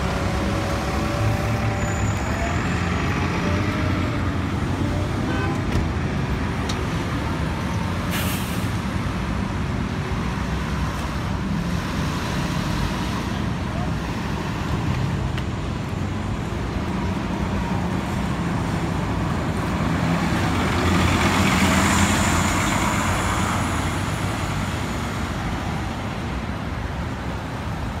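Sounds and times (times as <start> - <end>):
bus diesel engine passing: 0.0 - 28.0
street traffic rumble: 0.0 - 28.0.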